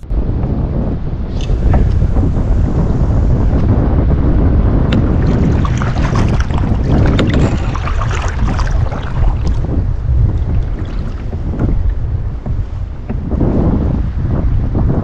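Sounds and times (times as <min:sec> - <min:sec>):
wind buffeting microphone: 0:00.0 - 0:15.0
water splashing against hull: 0:01.0 - 0:15.0.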